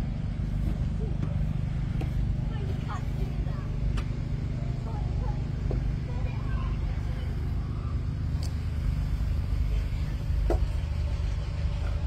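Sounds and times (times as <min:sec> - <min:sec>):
engine pulsing rumble: 0:00.0 - 0:12.0.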